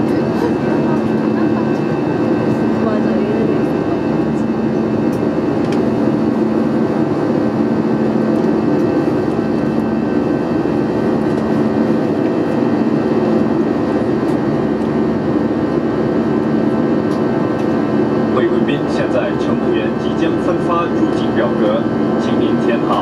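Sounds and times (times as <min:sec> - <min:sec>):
jet engine cabin roar: 0:00.0 - 0:23.0.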